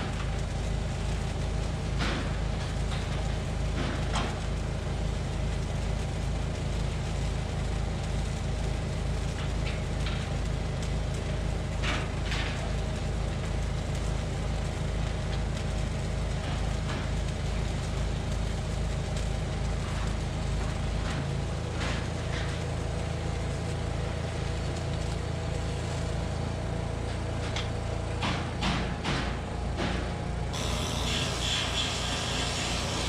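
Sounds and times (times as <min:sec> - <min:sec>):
engine humming steadily: 0:00.0 - 0:33.0.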